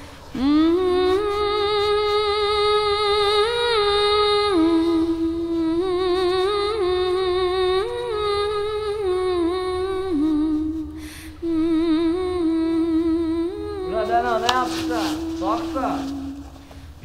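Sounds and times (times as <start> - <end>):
person humming a melody: 0.0 - 16.6.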